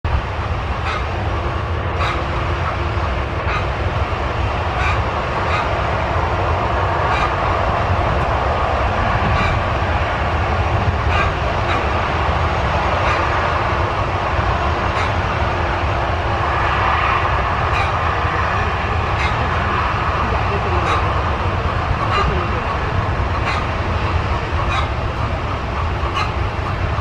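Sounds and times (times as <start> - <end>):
distant jet airliner engine noise: 0.0 - 27.0.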